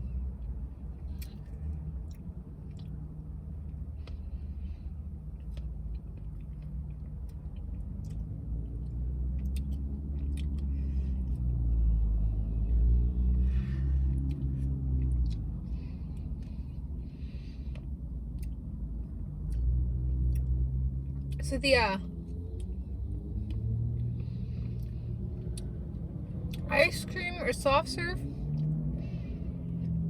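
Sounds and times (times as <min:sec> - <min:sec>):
vehicle engine rumbling: 0:00.0 - 0:30.0
soft chewing sounds: 0:00.2 - 0:21.4, 0:22.1 - 0:26.7, 0:28.4 - 0:28.9.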